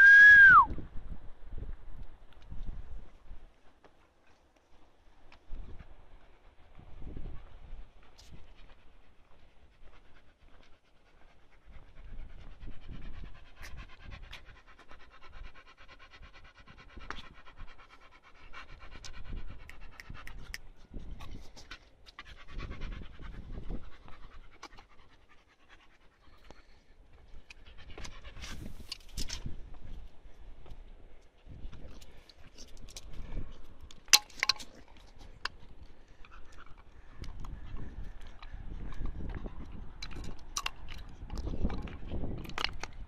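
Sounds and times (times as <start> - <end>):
dog panting: 5.5 - 33.8, 34.7 - 43.0.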